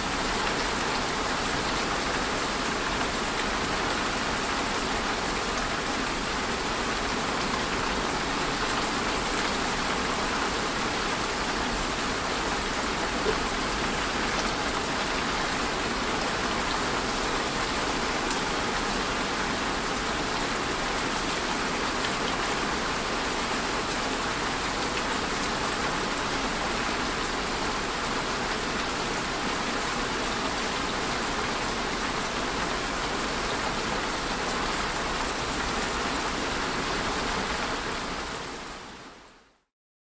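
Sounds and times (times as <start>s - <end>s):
heavy rain patter: 0.0s - 39.2s.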